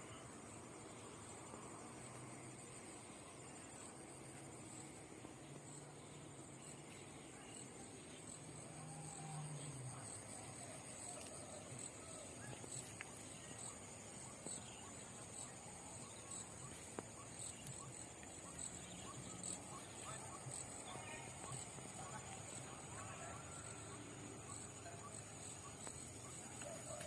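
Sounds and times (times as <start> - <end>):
insect chirping trill: 0.0 - 27.0.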